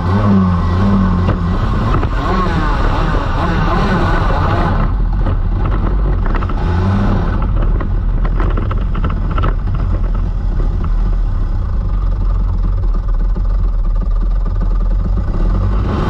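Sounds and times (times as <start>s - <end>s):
kart engine running hard: 0.0s - 16.0s.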